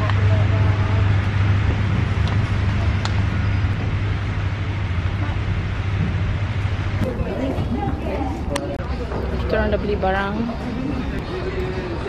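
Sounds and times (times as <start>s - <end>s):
shopping trolley rumbling: 0.0s - 12.0s.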